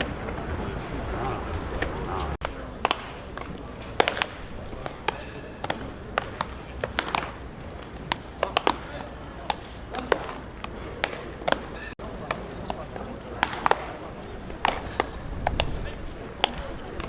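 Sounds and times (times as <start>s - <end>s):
distant voices: 0.0s - 17.0s
balls smacking into gloves and bats: 1.8s - 17.0s.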